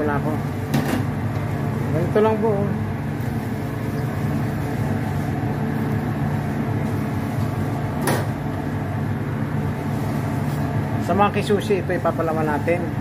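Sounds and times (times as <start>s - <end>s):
stove humming under boiling pot: 0.0s - 13.0s.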